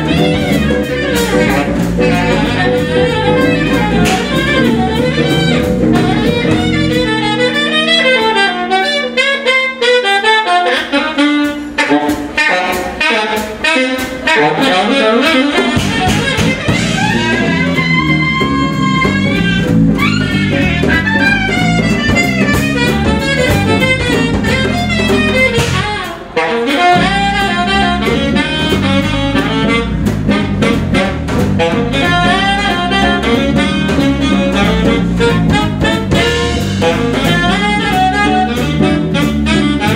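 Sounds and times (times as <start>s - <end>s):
jazz band playing live: 0.0s - 39.9s
saxophone lines: 0.0s - 39.9s.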